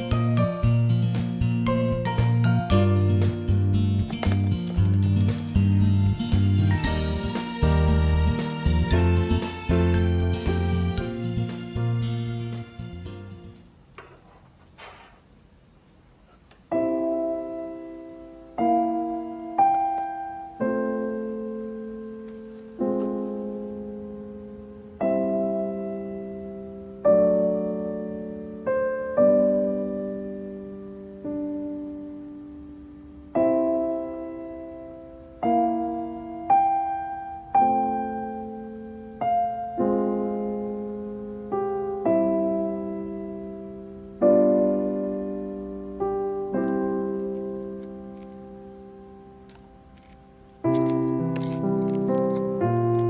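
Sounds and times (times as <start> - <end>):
soft piano music: 0.0 - 13.7, 16.6 - 53.0.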